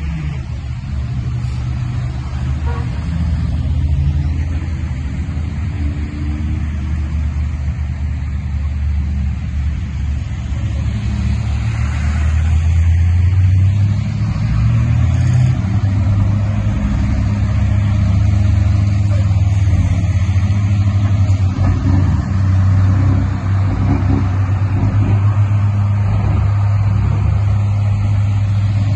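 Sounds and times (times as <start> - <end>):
motor vehicle rumbling: 0.0 - 28.9.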